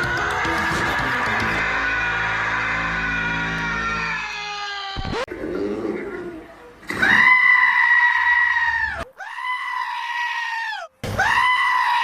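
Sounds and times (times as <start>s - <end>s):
goat screaming: 0.0s - 5.3s, 6.9s - 12.0s.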